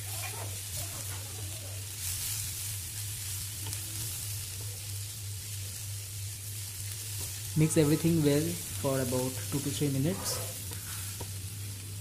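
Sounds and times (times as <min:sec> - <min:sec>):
spatula stirring in pan: 0:00.0 - 0:05.0, 0:05.7 - 0:11.9
food sizzling in hot oil: 0:00.0 - 0:12.0.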